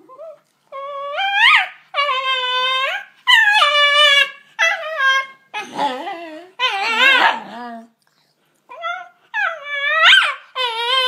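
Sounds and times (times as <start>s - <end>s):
dog whining howls: 0.0s - 7.9s, 8.7s - 11.0s.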